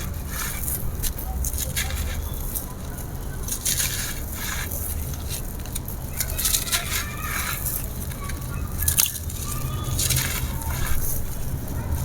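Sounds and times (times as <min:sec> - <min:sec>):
concrete crunching and crackling: 0:00.0 - 0:12.0.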